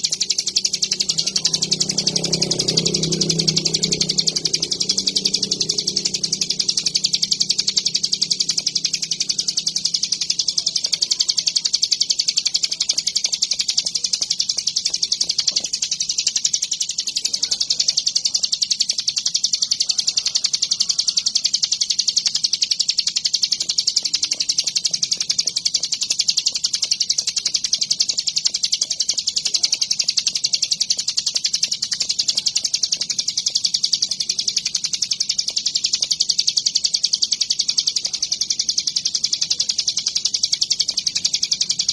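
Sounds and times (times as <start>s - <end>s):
bird singing fast trill: 0.0s - 41.9s.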